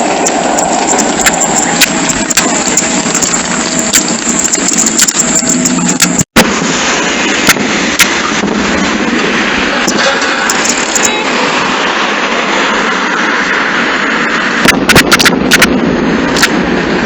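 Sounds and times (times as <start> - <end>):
constant rush of noise: 0.0 - 17.0
fireworks bursting and crackling: 0.0 - 17.0.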